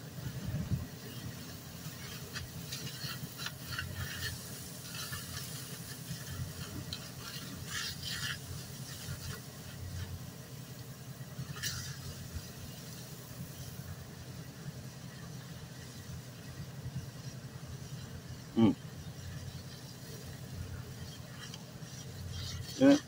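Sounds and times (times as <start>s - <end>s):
fire crackling and popping: 0.0s - 23.0s
low steady rumble: 0.0s - 23.0s.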